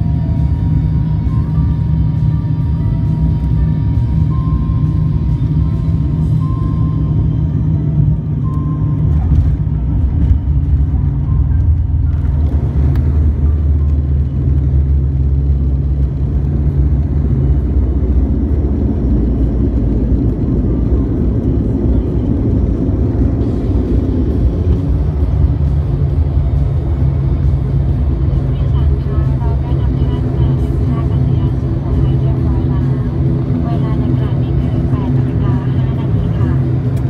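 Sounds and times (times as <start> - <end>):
jet engine hum: 0.0 - 37.0
wheels rumbling on runway: 0.0 - 37.0.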